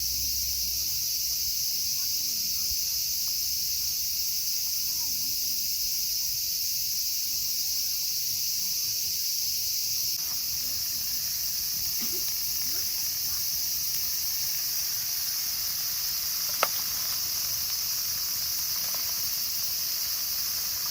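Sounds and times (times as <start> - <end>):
insects trilling: 0.0 - 20.9.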